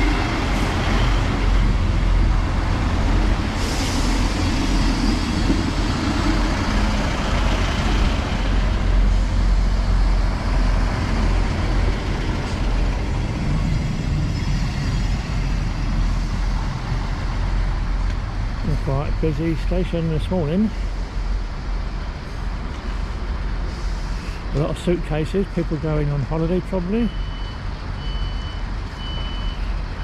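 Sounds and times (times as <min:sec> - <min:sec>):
diesel train idling rumble: 0:00.0 - 0:30.0.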